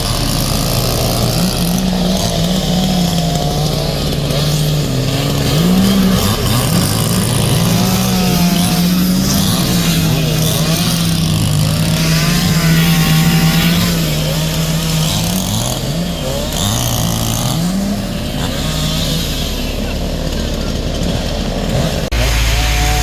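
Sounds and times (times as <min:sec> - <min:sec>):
small engine revving: 0:00.0 - 0:23.0.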